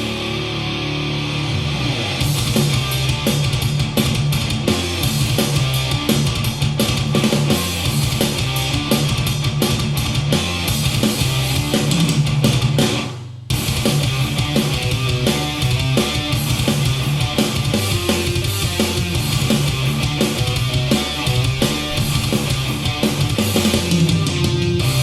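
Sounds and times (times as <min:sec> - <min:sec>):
heavy rock music: 0:00.0 - 0:25.0.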